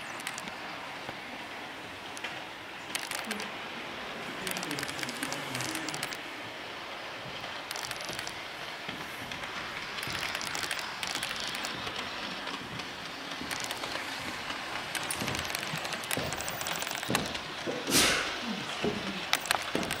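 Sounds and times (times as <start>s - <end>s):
model train clicking: 0.0s - 20.0s.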